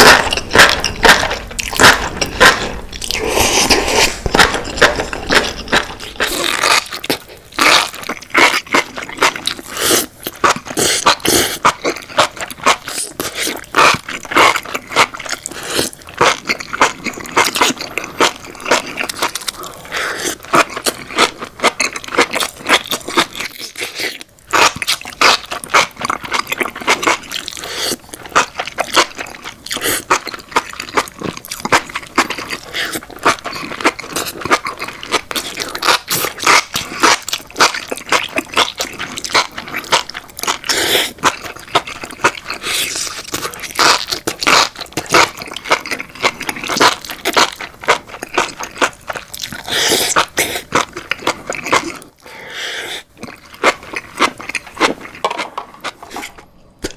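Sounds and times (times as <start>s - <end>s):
chewing and crunching: 0.0s - 56.9s.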